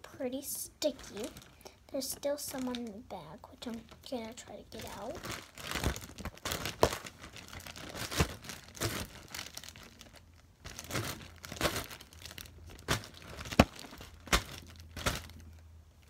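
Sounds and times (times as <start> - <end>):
plastic bag crinkling: 0.8 - 15.7.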